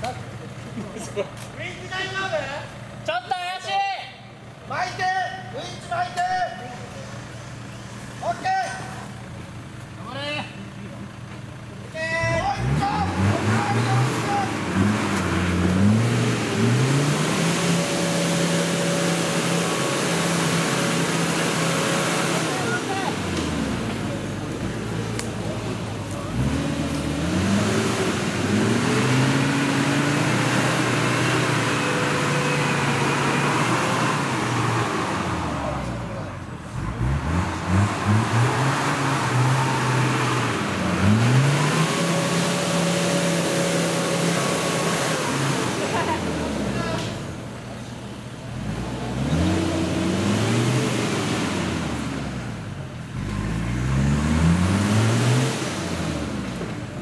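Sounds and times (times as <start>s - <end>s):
off-road vehicle engine revving: 10.2s - 57.0s.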